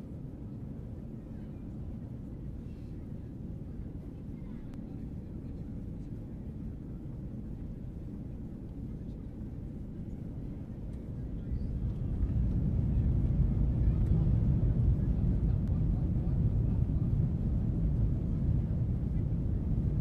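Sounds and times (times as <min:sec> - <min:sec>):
jet engines in airliner cabin: 0:00.0 - 0:20.0.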